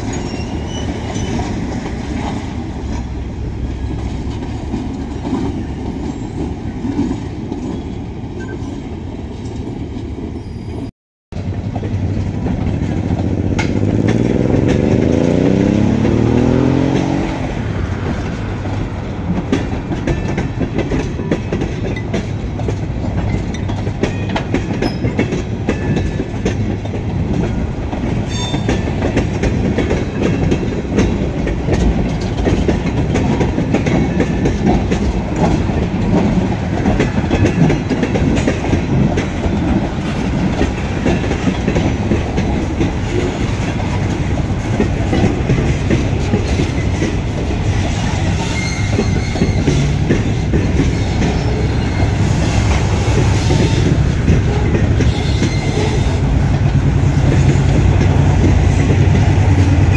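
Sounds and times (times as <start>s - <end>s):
wheels clicking over rail joints: 0.0s - 8.8s, 11.4s - 59.9s
train wheels rumbling on rail: 0.0s - 59.9s.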